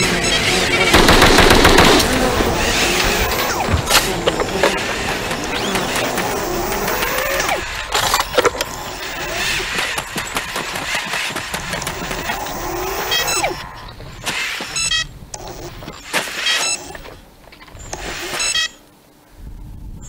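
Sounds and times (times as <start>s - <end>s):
rapid electronic beeping: 0.0s - 13.9s, 14.7s - 17.1s
robot motors whirring: 0.0s - 18.8s.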